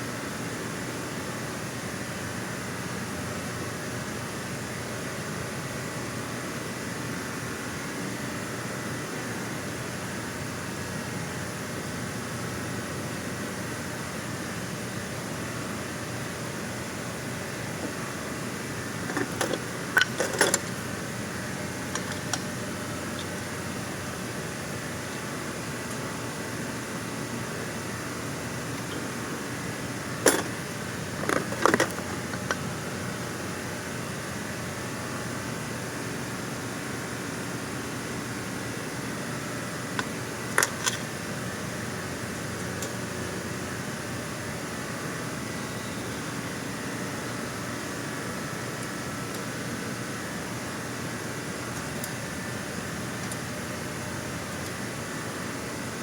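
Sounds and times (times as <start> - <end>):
mechanical hum with hiss: 0.0 - 56.0.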